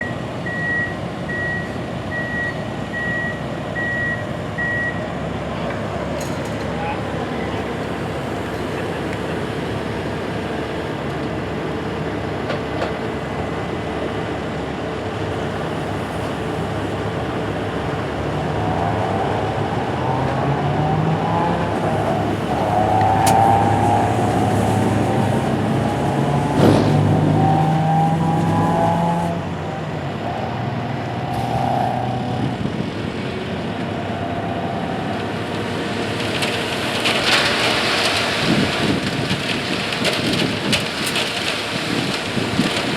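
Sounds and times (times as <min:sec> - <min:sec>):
diesel truck engine revving: 0:00.0 - 0:42.9.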